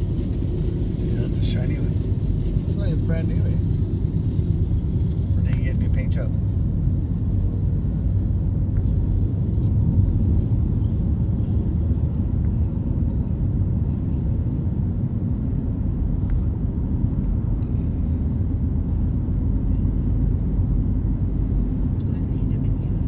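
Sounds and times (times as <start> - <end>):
tyre and engine rumble in car: 0.0 - 23.0.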